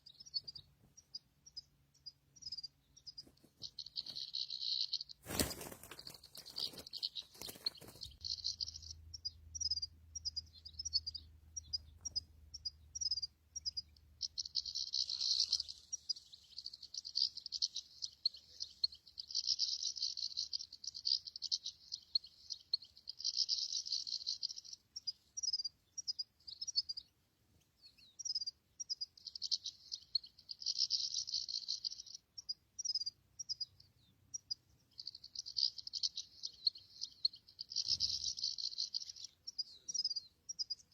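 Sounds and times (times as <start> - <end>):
goldfinch twittering and chirping: 0.0 - 27.1, 27.8 - 40.9.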